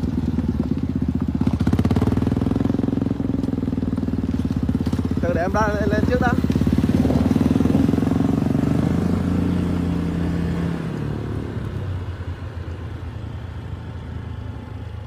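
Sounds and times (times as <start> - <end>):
go-kart engine running: 0.0 - 15.0
scooter engine hum: 0.0 - 15.0.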